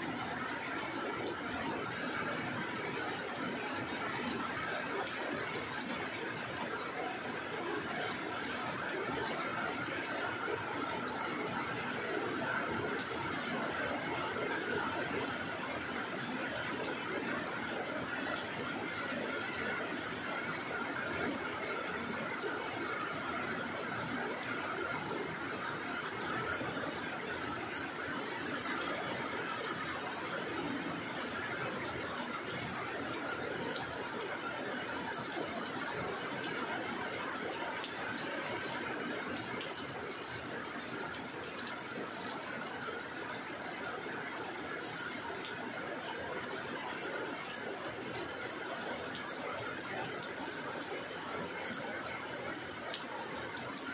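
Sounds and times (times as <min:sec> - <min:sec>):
rain falling on wet ground: 0:00.0 - 0:53.9.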